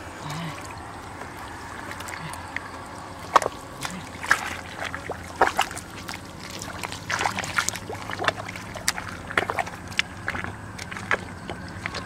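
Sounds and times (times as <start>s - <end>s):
feet squelching through mud: 0.0s - 12.0s.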